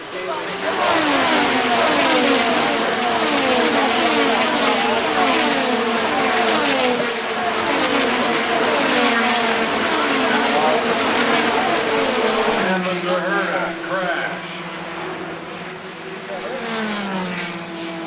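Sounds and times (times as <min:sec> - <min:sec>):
race cars passing by: 0:00.0 - 0:18.0.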